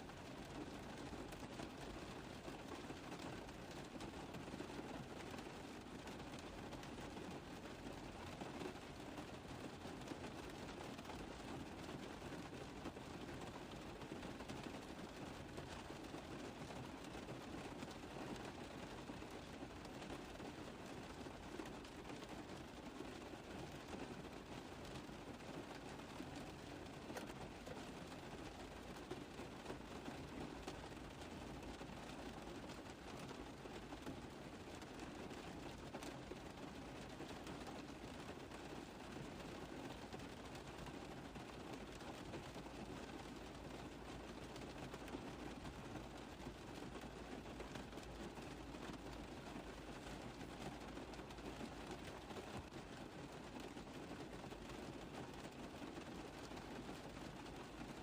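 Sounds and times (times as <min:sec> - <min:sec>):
rain tapping on a car roof: 0:00.0 - 0:58.0.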